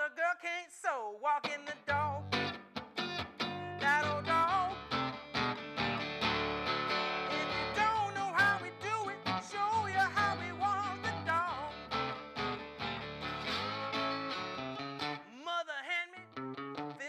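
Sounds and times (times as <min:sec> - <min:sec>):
slide acoustic guitar melody: 0:01.8 - 0:15.3, 0:16.2 - 0:17.0.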